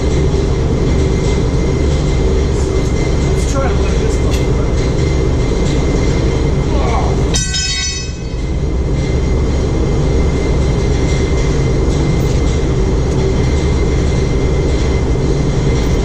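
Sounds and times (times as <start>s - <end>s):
mechanical drone with low rumble: 0.0s - 16.0s.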